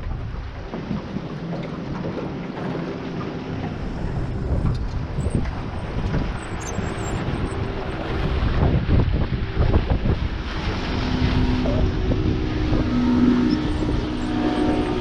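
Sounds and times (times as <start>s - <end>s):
motorboat engine drone: 0.0s - 15.0s
wind rumbling on microphone: 0.0s - 15.0s.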